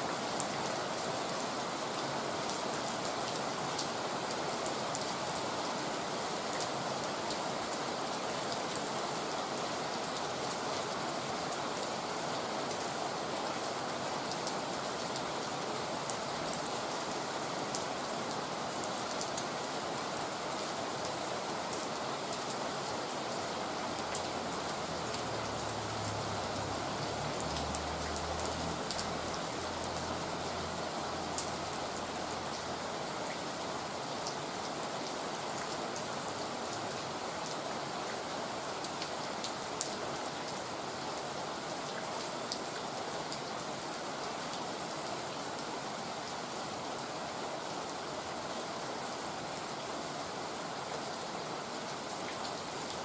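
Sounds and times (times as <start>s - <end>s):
heavy rain falling: 0.1s - 53.0s.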